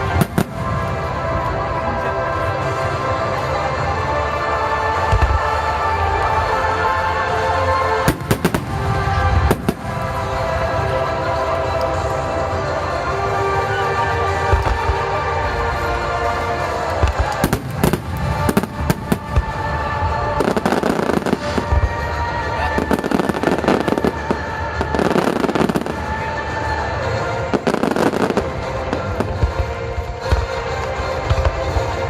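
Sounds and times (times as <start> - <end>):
fireworks bursting: 0.0 - 1.6, 7.7 - 32.0
fireworks crackling: 0.0 - 32.0
music playing: 0.0 - 32.0.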